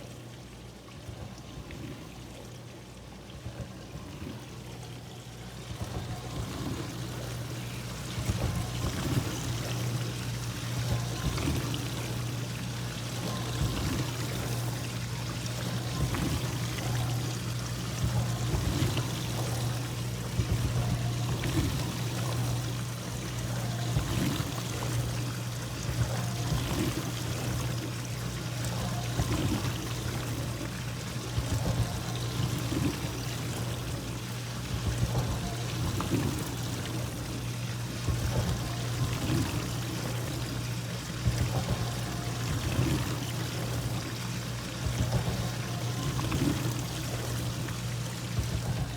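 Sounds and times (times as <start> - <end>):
dishwasher motor hum: 0.0 - 48.9.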